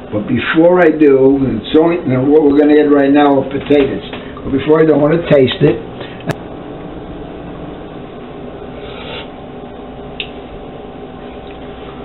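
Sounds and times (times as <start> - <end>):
low kitchen hum: 0.0 - 12.0.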